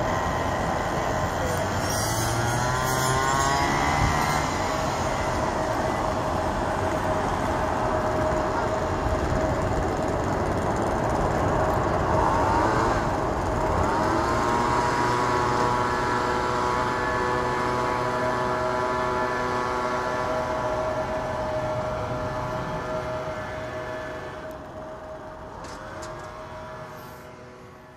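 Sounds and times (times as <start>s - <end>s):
jet engines climbing: 0.0s - 27.9s.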